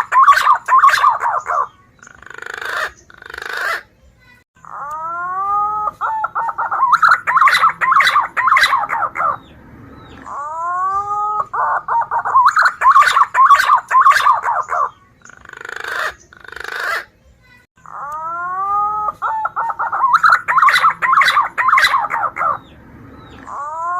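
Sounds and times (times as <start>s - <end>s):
bird whistling call: 0.0s - 3.8s, 4.7s - 17.1s, 17.9s - 23.9s.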